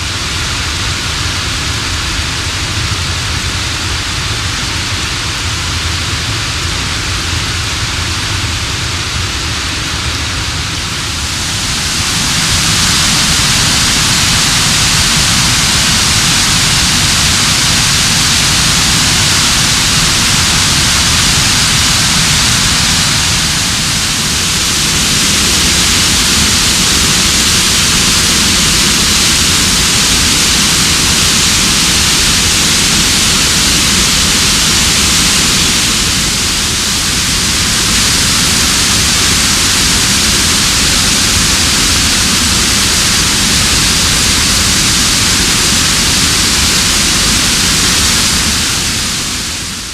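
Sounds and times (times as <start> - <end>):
waterfall rushing over rocks: 0.0 - 49.9.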